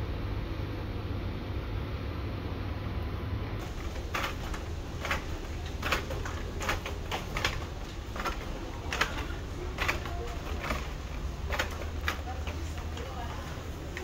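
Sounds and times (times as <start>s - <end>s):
low hum of air handling: 0.0s - 14.0s.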